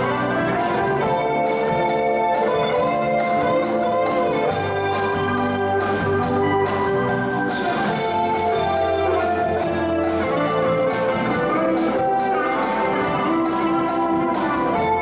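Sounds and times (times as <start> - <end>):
drum kit: 0.0 - 15.0
electric guitar: 0.0 - 15.0
held keyboard chords: 0.0 - 15.0.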